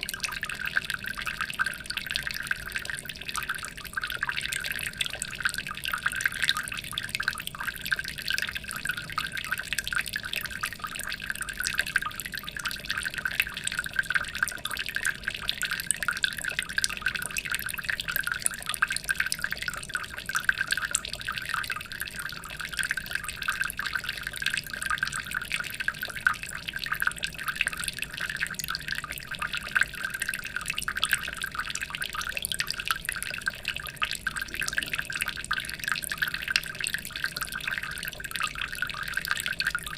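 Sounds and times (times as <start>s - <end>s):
aquarium water trickling and dripping: 0.0s - 39.9s.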